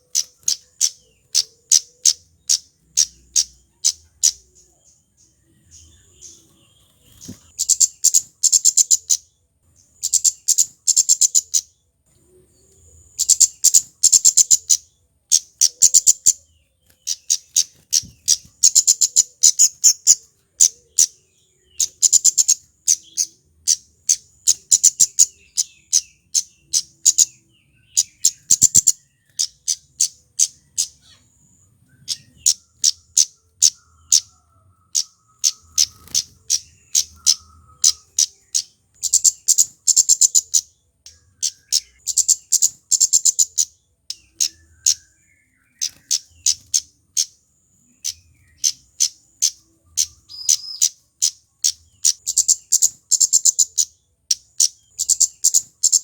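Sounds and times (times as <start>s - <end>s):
bird singing high ticking notes: 0.0s - 56.0s.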